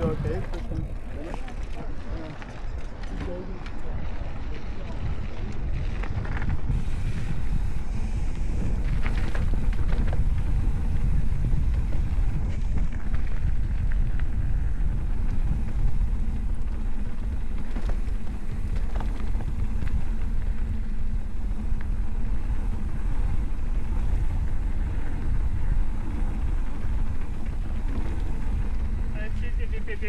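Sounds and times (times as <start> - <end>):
wind noise on microphone: 0.0 - 30.0.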